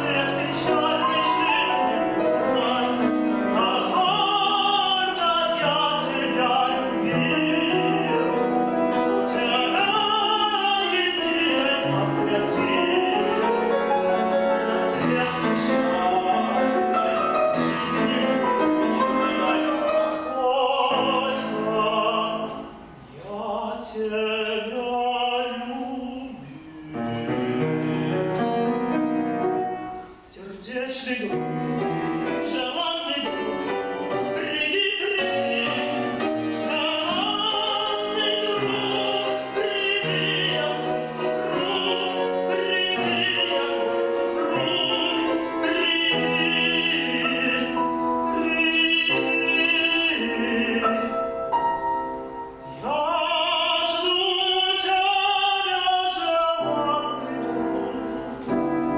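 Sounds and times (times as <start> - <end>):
piano accompaniment: 0.0 - 58.9
tenor singing with vibrato: 0.0 - 58.9.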